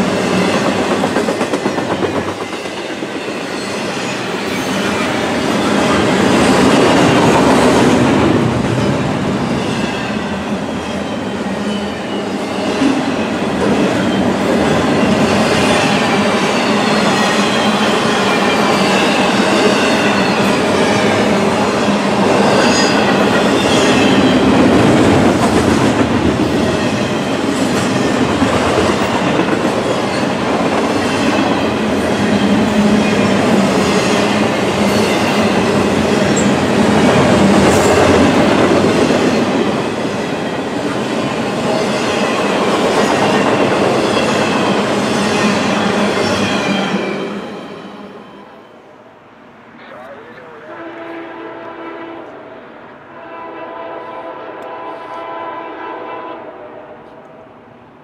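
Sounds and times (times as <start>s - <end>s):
steel wheels rumbling on rail: 0.0s - 49.0s.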